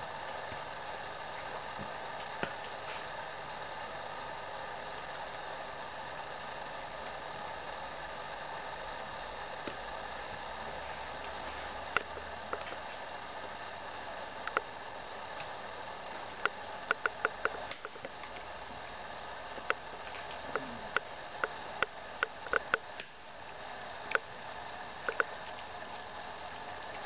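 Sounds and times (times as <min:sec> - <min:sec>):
steady low hiss: 0:00.0 - 0:27.0.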